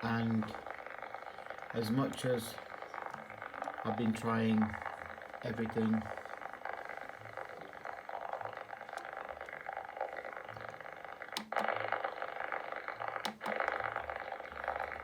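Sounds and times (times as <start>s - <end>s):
radio crackling noise: 0.0s - 15.0s
sharp clicks: 0.0s - 15.0s.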